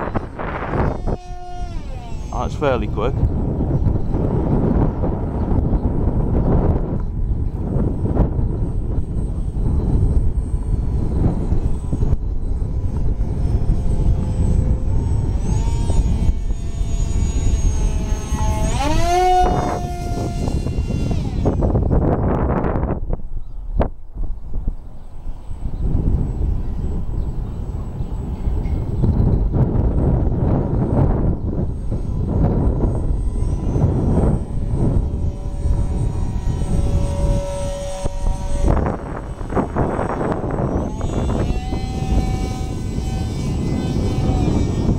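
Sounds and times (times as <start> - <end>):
electric motor and propeller whine: 0.0 - 44.9
wind rumbling on microphone: 0.0 - 44.9.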